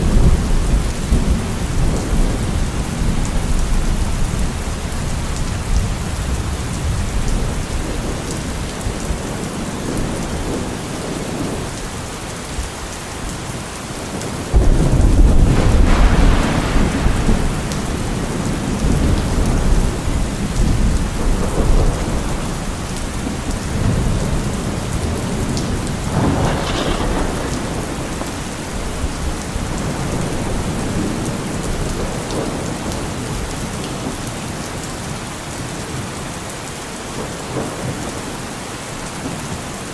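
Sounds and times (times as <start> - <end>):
thunder rumbling: 0.0 - 34.2
steady rain falling: 0.0 - 39.9.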